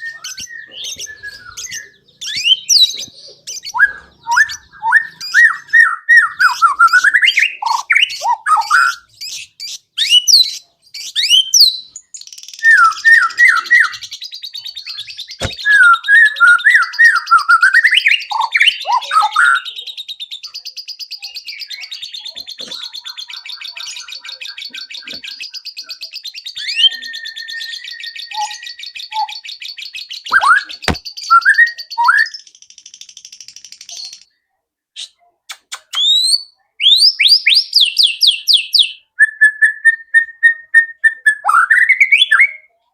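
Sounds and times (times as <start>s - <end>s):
songbird whistling and trilling: 0.0s - 34.3s, 35.7s - 42.7s.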